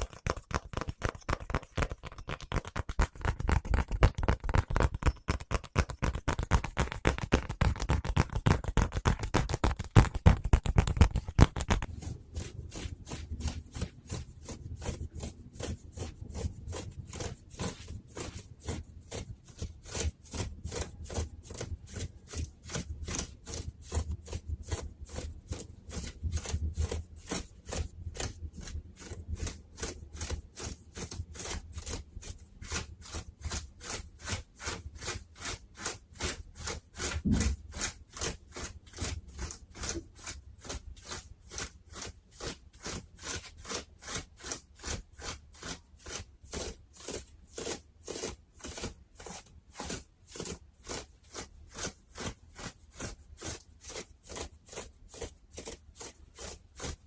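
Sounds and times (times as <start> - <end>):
fabric scratching and rubbing: 0.0 - 57.0.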